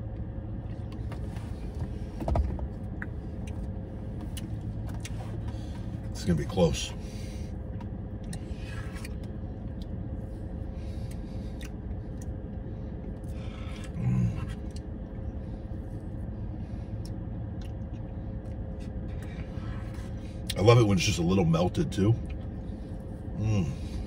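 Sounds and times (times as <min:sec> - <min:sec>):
car cabin hum: 0:00.0 - 0:24.0.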